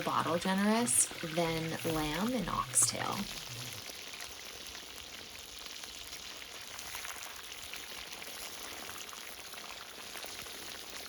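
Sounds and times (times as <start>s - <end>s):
meat frying in hot oil: 0.0s - 11.0s.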